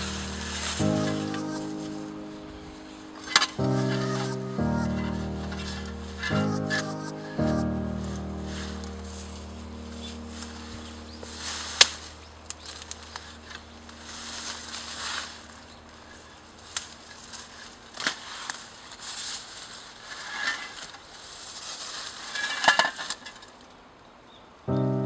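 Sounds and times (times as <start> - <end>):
dry brush rustling and crunching: 0.0 - 7.0, 7.9 - 23.8.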